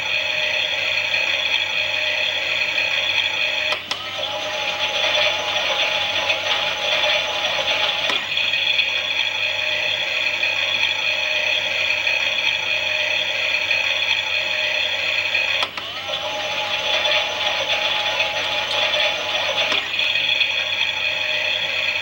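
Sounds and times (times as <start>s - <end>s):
toy motor and gears whirring: 0.0s - 22.0s.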